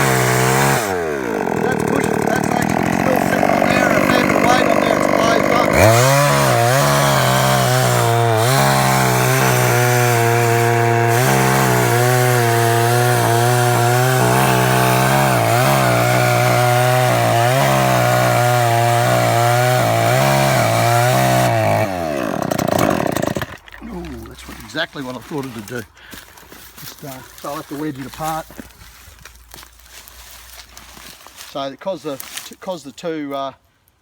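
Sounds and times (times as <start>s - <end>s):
chainsaw cutting into a tree: 0.0s - 31.4s.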